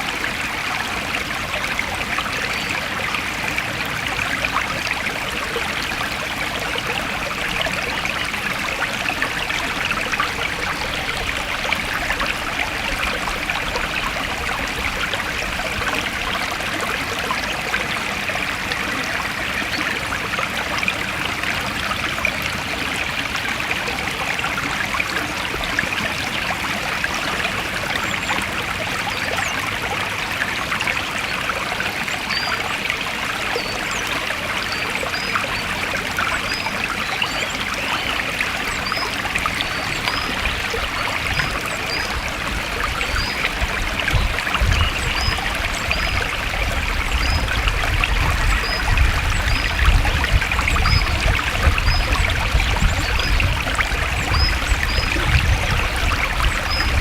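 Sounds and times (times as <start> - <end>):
stream flowing and trickling: 0.0 - 57.0.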